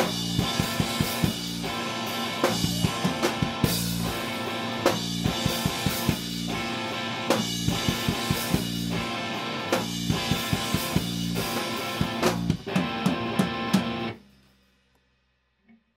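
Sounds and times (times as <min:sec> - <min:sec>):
rock music with drums and guitar: 0:00.0 - 0:14.4.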